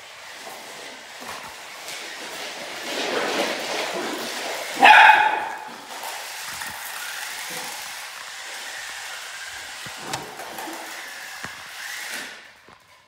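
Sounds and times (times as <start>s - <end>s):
toy car electric motors whirring: 0.0s - 4.8s, 5.5s - 13.0s.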